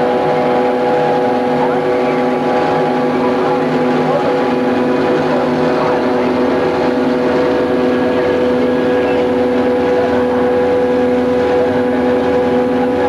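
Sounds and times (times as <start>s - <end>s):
diesel locomotive engine humming: 0.0s - 13.0s.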